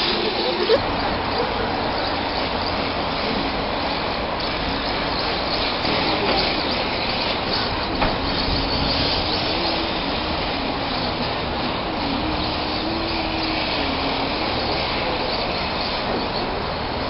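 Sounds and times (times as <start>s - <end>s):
faint wavering whine: 0.0s - 17.0s
small electric motors and tyres sliding: 0.0s - 17.0s.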